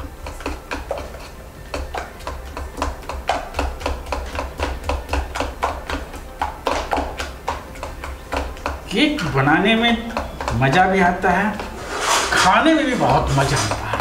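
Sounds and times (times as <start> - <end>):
whisk clicking against metal pot: 0.0 - 11.8, 12.4 - 14.0.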